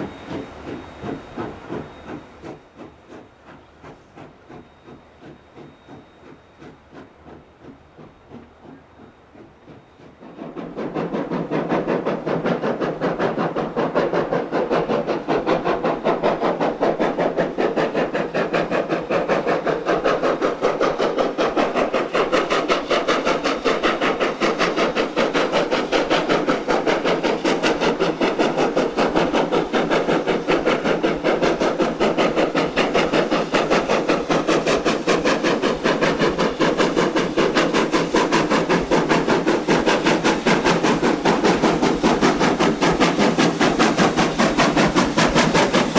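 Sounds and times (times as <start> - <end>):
steam hissing: 0.0 - 45.9
steam locomotive exhaust chuffing: 0.0 - 45.9.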